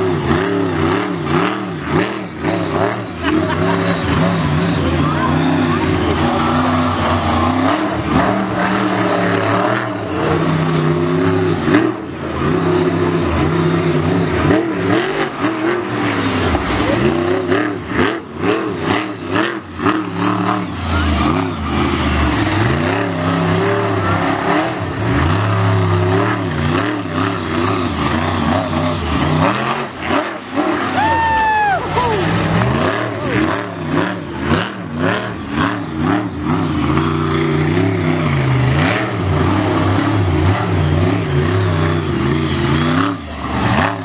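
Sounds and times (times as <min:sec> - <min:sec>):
truck engine revving hard: 0:00.0 - 0:44.0.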